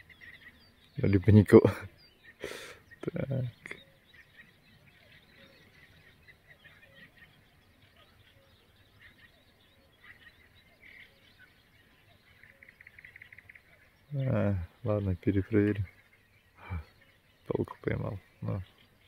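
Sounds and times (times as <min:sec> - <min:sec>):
distant birds chirping and trilling: 0:00.0 - 0:19.0.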